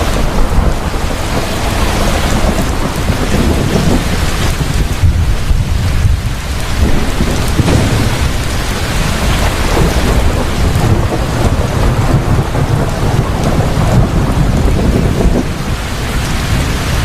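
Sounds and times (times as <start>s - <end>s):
heavy rain pouring: 0.0s - 17.0s
thunder rumbling: 0.0s - 17.0s.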